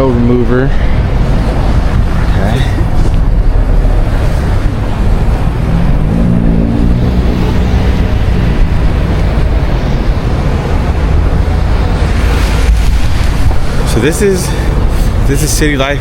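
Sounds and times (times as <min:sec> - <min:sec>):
engine hum: 0:00.0 - 0:16.0
traffic rumble: 0:00.0 - 0:16.0.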